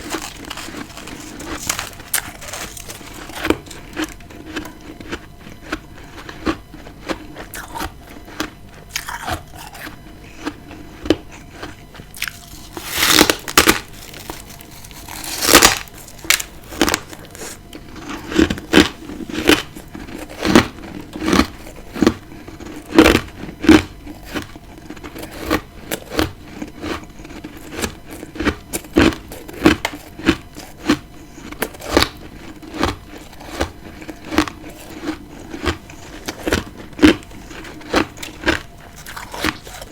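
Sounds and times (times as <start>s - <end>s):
frost being bitten and chewed: 0.0s - 39.9s.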